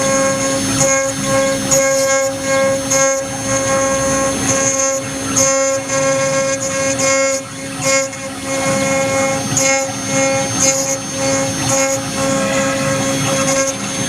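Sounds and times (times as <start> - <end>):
bit squealing cutting metal: 0.0 - 14.0
router spindle whine: 0.0 - 14.0.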